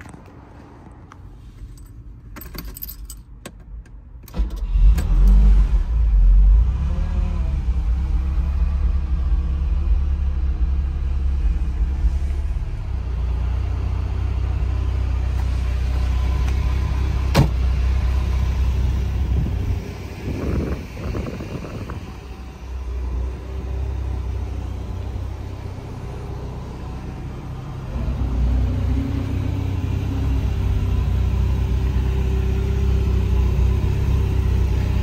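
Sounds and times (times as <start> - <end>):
car engine starting and idling: 0.0 - 35.0.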